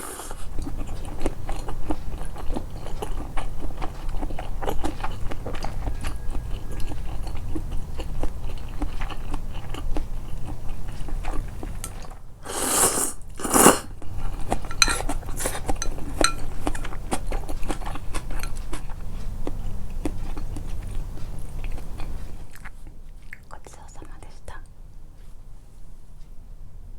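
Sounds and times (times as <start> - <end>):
chewing and crunching food: 0.0 - 24.2.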